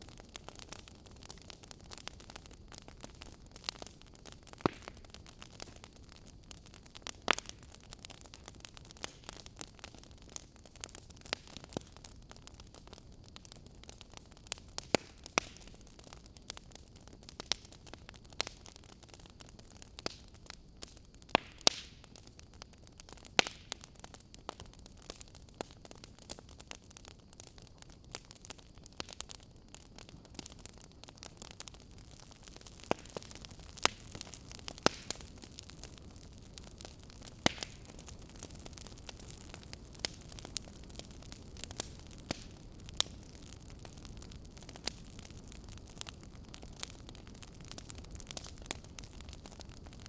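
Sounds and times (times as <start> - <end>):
fire crackling in fireplace: 0.0 - 50.0.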